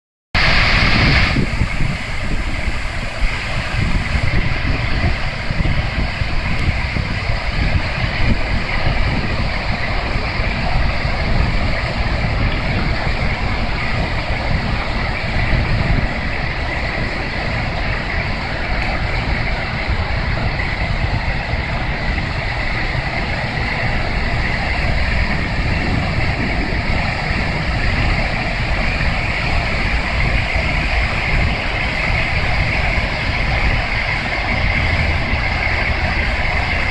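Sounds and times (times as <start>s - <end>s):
fountain water splashing: 0.4s - 36.9s
low rumble: 0.4s - 36.9s.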